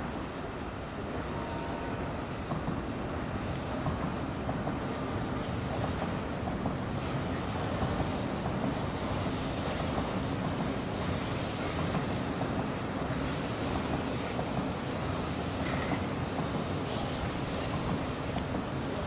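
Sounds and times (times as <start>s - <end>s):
train wheels squealing: 3.5s - 19.0s.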